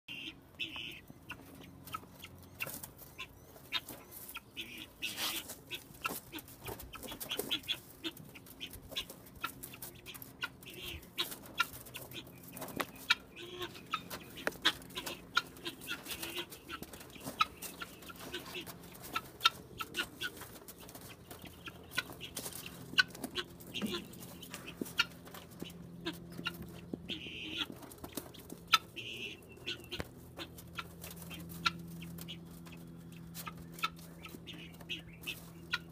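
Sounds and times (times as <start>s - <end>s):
chickens clucking: 0.1s - 35.9s.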